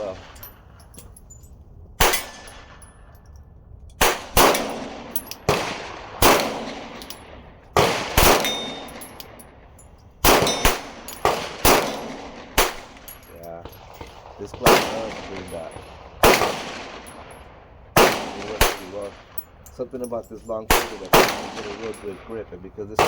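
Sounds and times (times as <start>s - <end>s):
pistol shots with echo: 0.0s - 0.6s, 2.0s - 3.1s, 4.0s - 23.0s.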